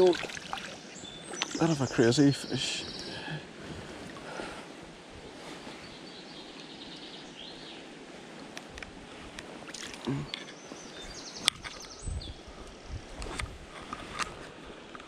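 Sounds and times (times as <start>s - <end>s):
river water running: 0.0s - 15.0s.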